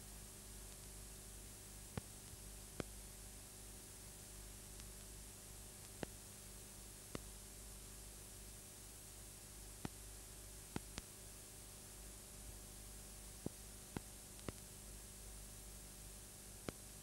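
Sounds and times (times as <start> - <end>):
mains hum: 0.0 - 17.0
recording hiss: 0.0 - 17.0.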